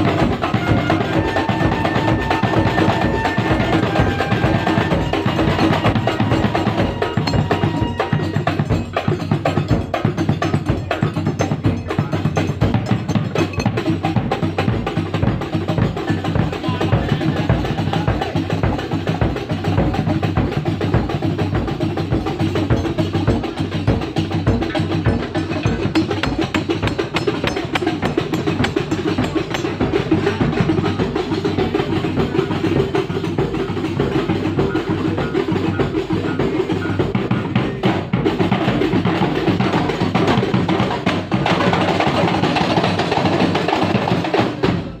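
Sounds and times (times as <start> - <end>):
hand-struck frame drums: 0.0 - 45.0.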